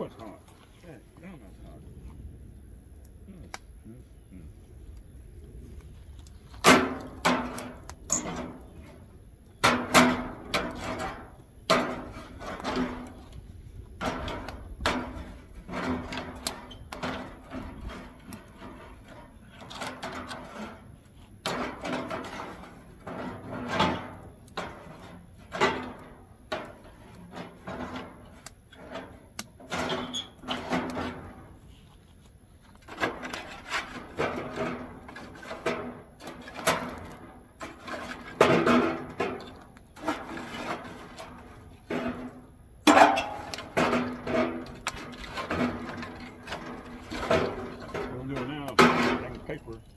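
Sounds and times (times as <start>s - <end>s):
firewood knocking in steel firebox: 6.2s - 31.6s, 32.7s - 49.9s.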